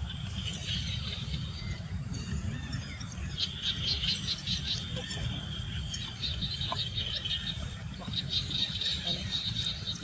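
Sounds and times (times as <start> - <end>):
constant low rumble: 0.0 - 10.0.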